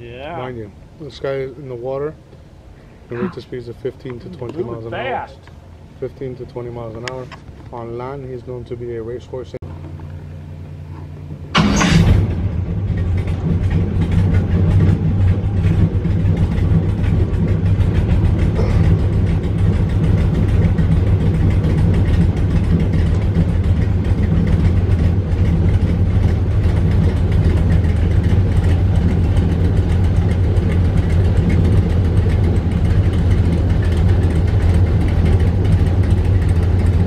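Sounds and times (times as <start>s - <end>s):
airboat engine idling: 0.0s - 37.0s.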